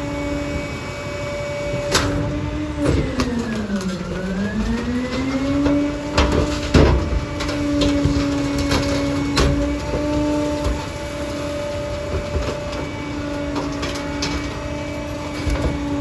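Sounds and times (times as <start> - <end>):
garbage truck engine and hydraulics: 0.0 - 16.0
items crushed with cracks and bangs: 1.8 - 16.0.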